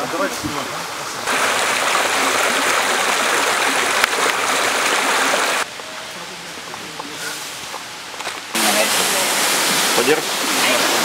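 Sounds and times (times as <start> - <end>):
rushing water hiss: 0.0 - 11.0.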